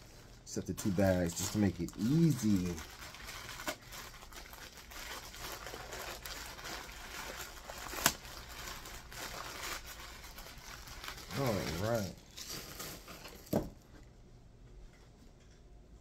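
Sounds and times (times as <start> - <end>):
bag rustling and crinkling: 0.0 - 13.6.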